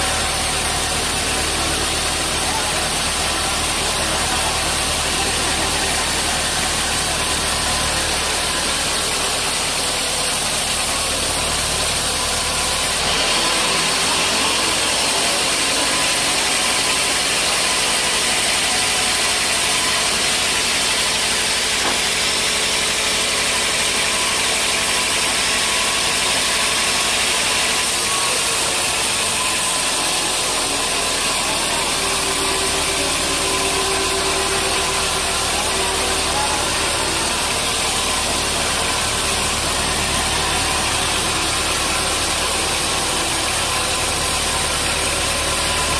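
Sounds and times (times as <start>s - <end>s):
sawmill machinery drone: 0.0s - 45.9s.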